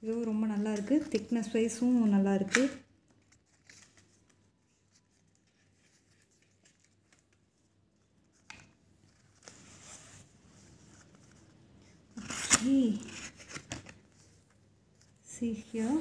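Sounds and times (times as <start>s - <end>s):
soft rustling of packaging: 0.0s - 16.0s.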